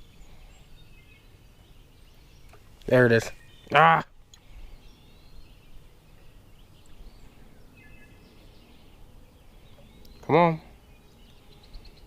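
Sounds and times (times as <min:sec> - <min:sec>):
distant bird calls: 0:00.0 - 0:12.0
faint outdoor ambience: 0:00.0 - 0:12.0.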